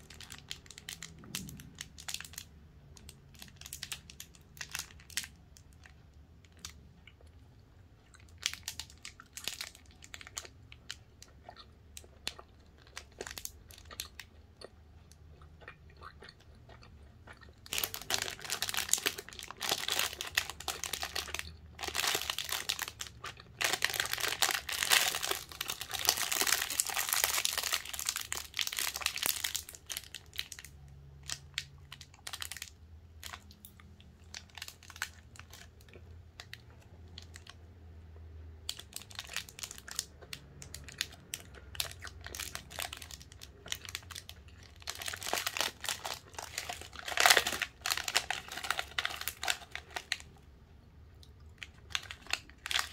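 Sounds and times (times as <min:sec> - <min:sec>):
snack packet rustling: 0:00.0 - 0:06.8, 0:08.1 - 0:14.3, 0:17.4 - 0:37.6, 0:38.7 - 0:50.4, 0:51.4 - 0:52.9
plastic wrapper crinkling: 0:00.0 - 0:07.3, 0:08.1 - 0:14.3, 0:17.6 - 0:37.6, 0:38.7 - 0:50.4, 0:51.4 - 0:52.9.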